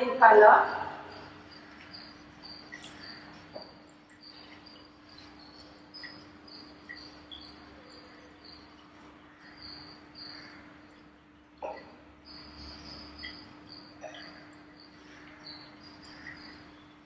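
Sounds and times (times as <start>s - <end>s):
faint high-pitched chirping: 0.0s - 17.0s
steady low hum: 0.0s - 17.0s.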